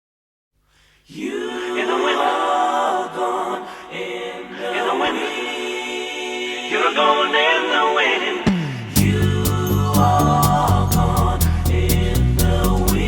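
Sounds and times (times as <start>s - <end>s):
a cappella voices singing in harmony: 0.8s - 13.0s.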